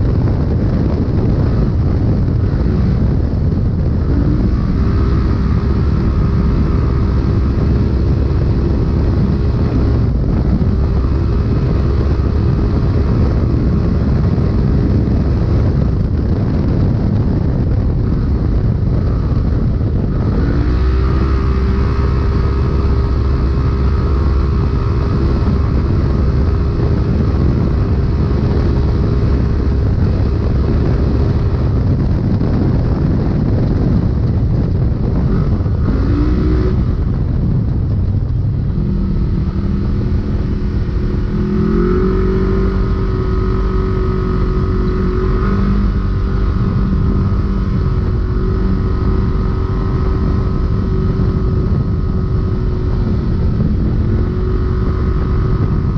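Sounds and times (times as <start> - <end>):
engine running at high revs: 0.0 - 55.9
rumble of rough ground: 0.0 - 55.9.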